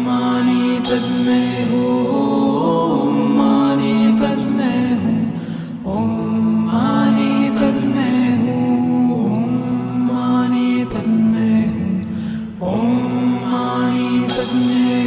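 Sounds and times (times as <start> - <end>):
mantra chanted in long notes: 0.0 - 15.0
recorded music: 0.0 - 15.0.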